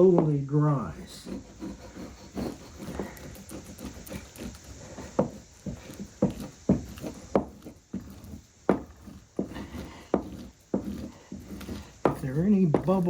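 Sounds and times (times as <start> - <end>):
blade chopping through veneer: 1.0 - 13.0.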